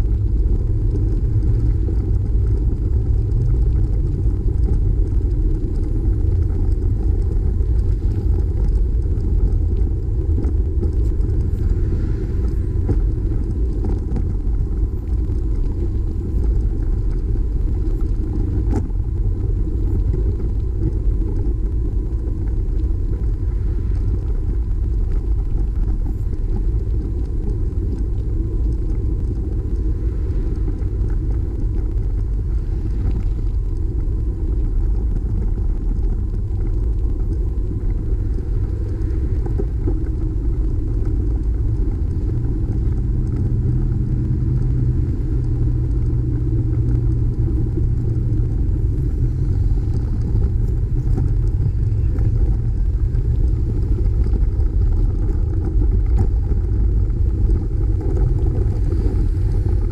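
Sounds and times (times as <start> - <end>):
traffic noise: 0.0 - 59.9
vehicle engine hum: 0.0 - 59.9
wind buffeting microphone: 0.0 - 59.9.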